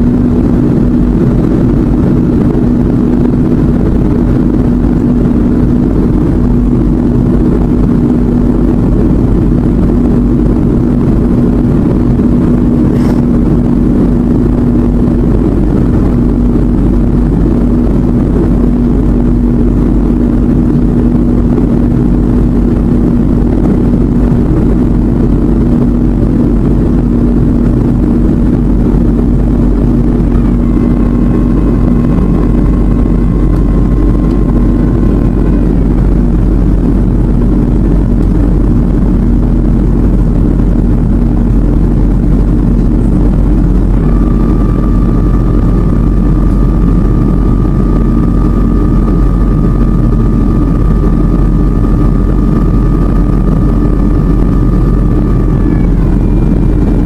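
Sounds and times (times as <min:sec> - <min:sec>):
faint high whine: 0:00.0 - 0:57.0
jet engine cabin drone: 0:00.0 - 0:57.0.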